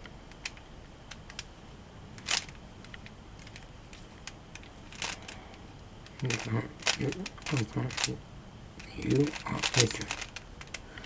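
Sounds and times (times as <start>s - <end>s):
puzzle cube plastic clicks: 0.3s - 1.5s, 2.2s - 8.2s, 8.8s - 11.0s.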